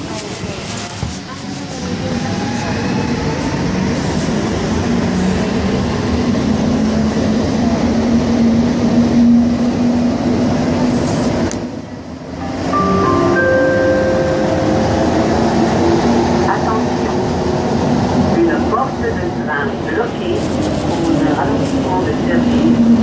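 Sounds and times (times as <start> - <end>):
metro train running noise: 0.0 - 23.0.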